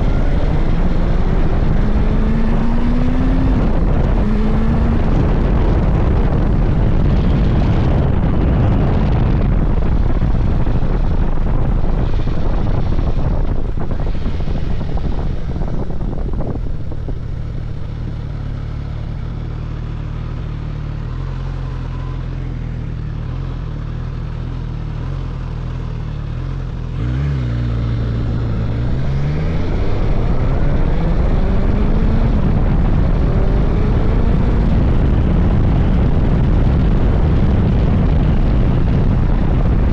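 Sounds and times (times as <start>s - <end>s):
wind rush: 0.0s - 19.5s, 26.7s - 39.9s
motorcycle engine: 0.0s - 39.9s.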